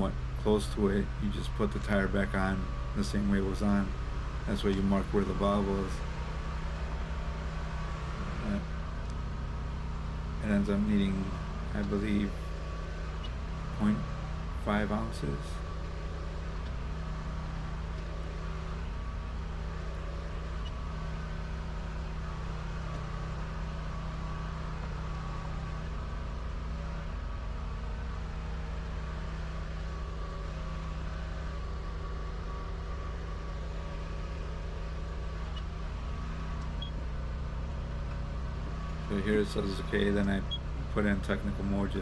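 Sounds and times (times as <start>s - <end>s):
low machine hum with faint tones: 0.0s - 42.0s.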